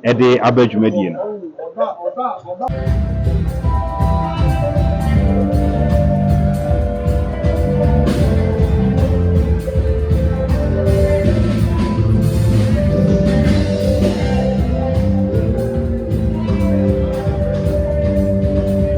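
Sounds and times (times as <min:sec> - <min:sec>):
live band music: 0:02.7 - 0:18.9.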